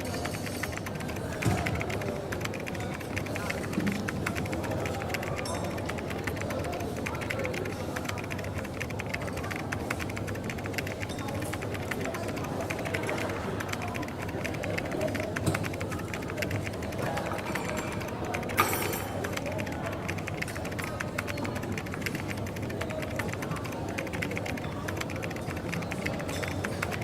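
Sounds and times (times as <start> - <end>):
background murmur of voices: 0.0 - 27.0
small clicks and taps: 0.0 - 27.0.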